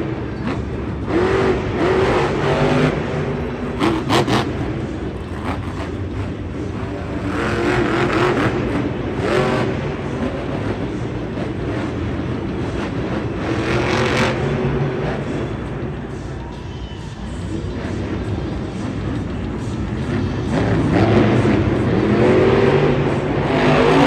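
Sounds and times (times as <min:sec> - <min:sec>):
truck engine revving: 0:00.0 - 0:16.0, 0:20.4 - 0:24.0.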